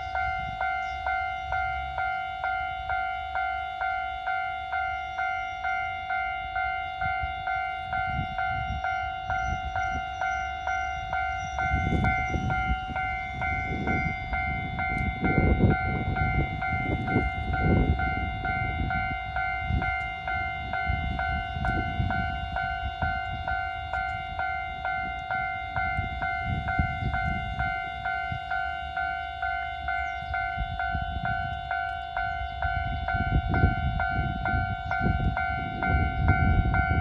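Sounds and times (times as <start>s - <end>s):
level crossing bell ringing: 0.0s - 37.0s
train rumbling over crossing: 0.0s - 37.0s.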